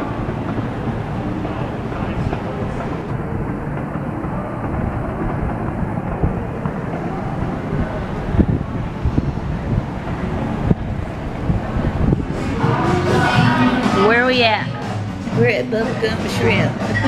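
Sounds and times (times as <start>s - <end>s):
wind buffeting microphone: 0.0s - 16.8s.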